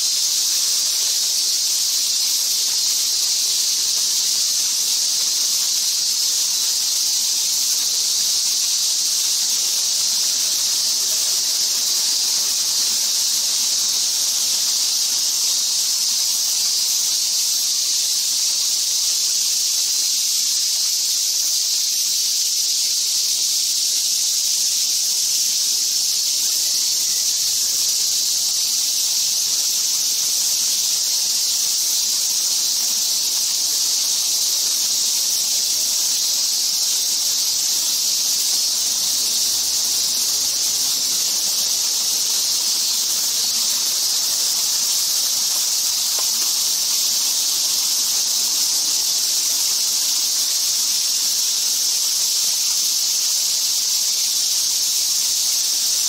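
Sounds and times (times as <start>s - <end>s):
insect chorus hissing: 0.0s - 56.0s.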